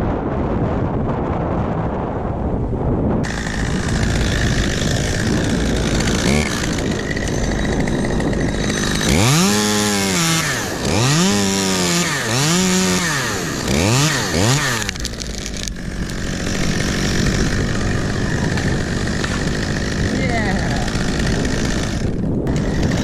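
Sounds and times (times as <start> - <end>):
chainsaw revving: 3.2 - 23.0
engine drone: 3.2 - 23.0.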